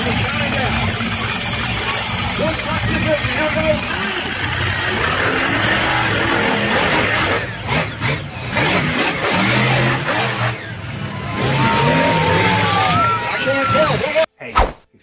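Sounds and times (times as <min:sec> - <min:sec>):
monster truck engines revving: 0:00.0 - 0:14.2.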